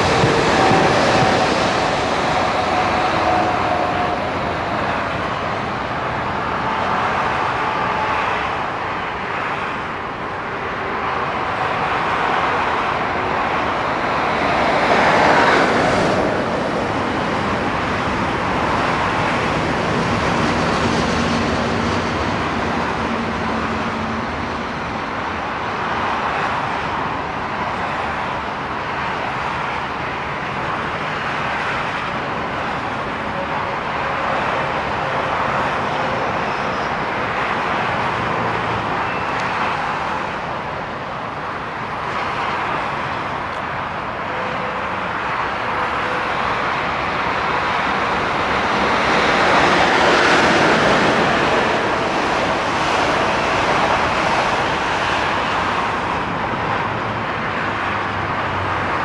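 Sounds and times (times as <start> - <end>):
electric trains rumbling: 0.0 - 59.0
road traffic noise: 0.0 - 59.0.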